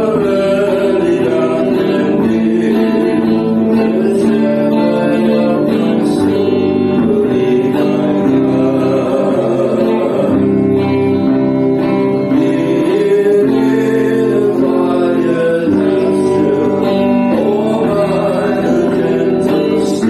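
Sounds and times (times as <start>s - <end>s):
person singing: 0.0s - 20.0s
strummed acoustic guitar: 0.0s - 20.0s.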